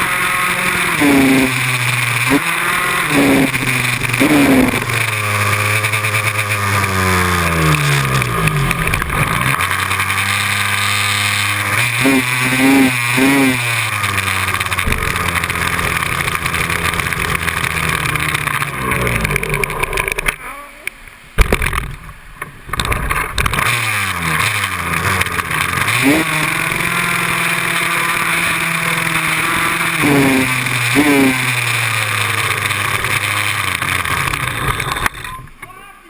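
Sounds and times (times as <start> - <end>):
small motorbike engine revving: 0.0 - 20.4, 22.7 - 35.6.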